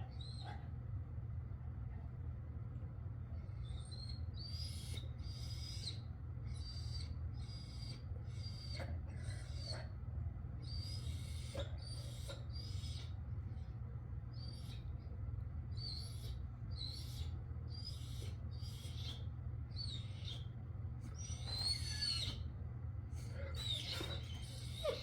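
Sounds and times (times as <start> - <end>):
dog whining: 0.0 - 0.8, 3.5 - 10.0, 10.6 - 13.7, 14.3 - 15.1, 15.7 - 25.0
steady low hum: 0.0 - 25.0.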